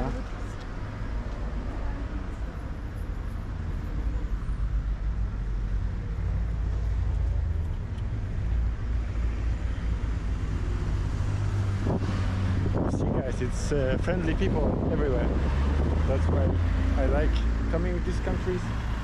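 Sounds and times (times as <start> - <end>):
car engines running: 0.0 - 19.0
street traffic rumble: 0.0 - 19.0.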